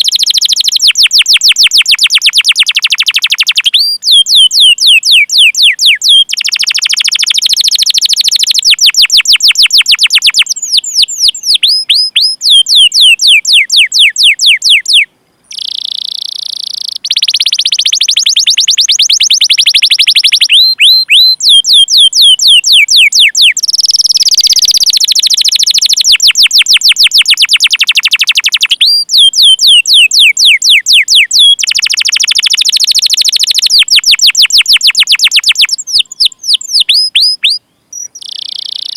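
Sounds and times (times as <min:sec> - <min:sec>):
canary trilling song: 0:00.0 - 0:38.9.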